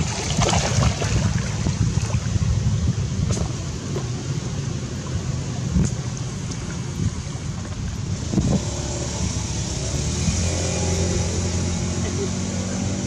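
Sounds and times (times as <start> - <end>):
engine running: 0.0 - 13.0
rushing background noise: 0.0 - 13.0.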